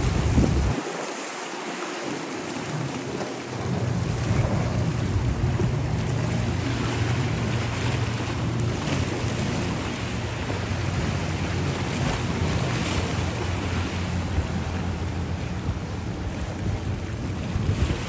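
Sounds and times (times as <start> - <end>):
wind buffeting microphone: 0.0 - 1.2, 2.7 - 18.0
marine engine droning: 0.0 - 18.0
sea water sloshing: 0.0 - 18.0.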